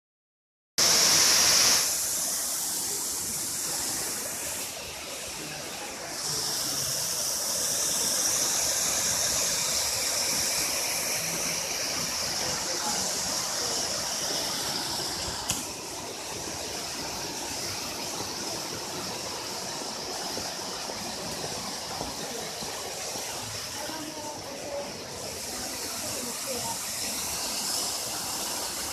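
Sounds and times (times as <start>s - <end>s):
waterfall rushing: 0.8s - 28.9s.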